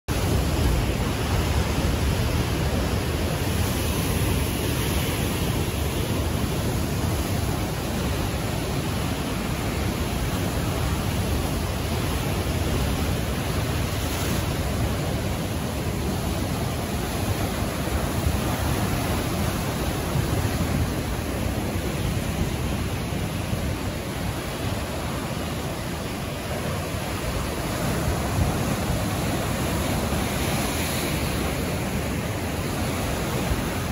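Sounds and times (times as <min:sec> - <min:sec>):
ocean surf on rocky shore: 0:00.1 - 0:33.9.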